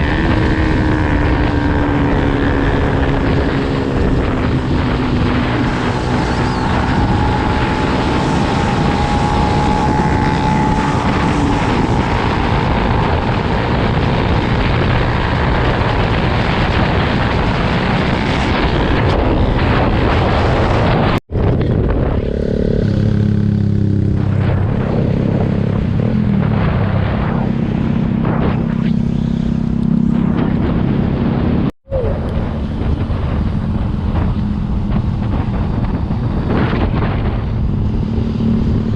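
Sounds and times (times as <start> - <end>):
dirt bike engine running: 0.0 - 38.9
wind rushing over microphone: 0.0 - 38.9.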